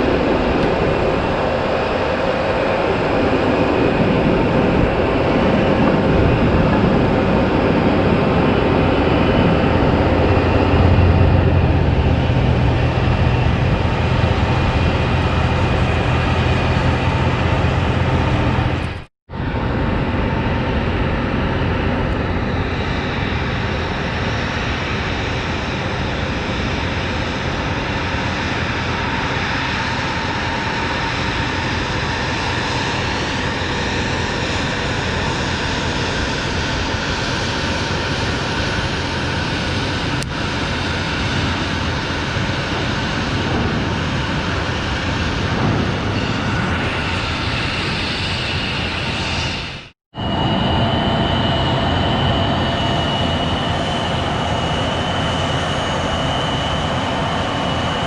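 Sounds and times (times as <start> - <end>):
jet airliner engines rushing: 0.0 - 58.0.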